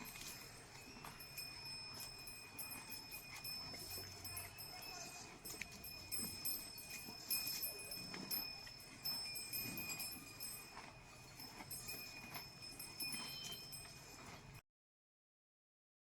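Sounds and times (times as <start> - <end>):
cattle bells jingling: 0.0 - 14.6
knocks and clicks of cattle moving: 0.0 - 14.6.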